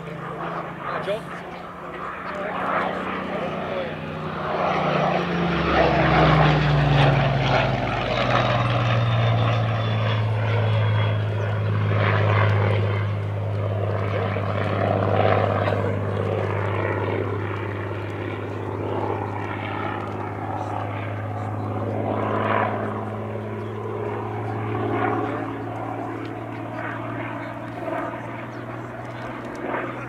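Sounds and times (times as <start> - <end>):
propeller plane engine droning: 0.0 - 30.0.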